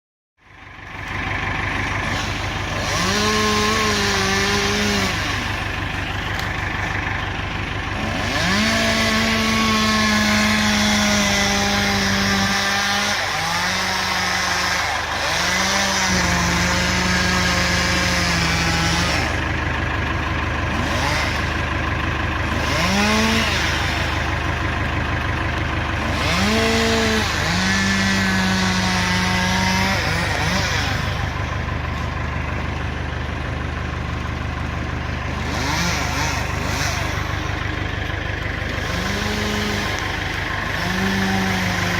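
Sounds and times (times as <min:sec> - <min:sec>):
engine idling: 0:00.4 - 0:41.9
chainsaw revving: 0:00.5 - 0:41.9.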